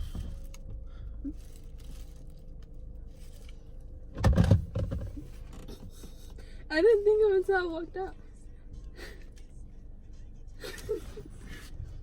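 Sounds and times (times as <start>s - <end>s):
car humming: 0.0s - 12.0s.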